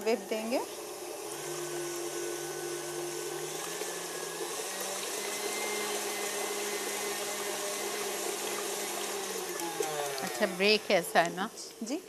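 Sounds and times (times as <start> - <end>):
electric mixer motor hum: 0.0 - 12.0.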